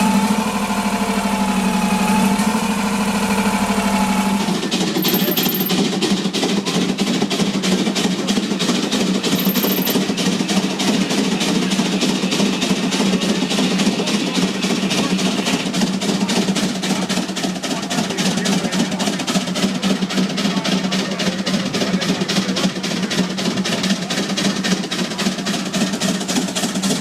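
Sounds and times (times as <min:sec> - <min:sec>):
engine running with rapid knocking: 0:00.0 - 0:27.0.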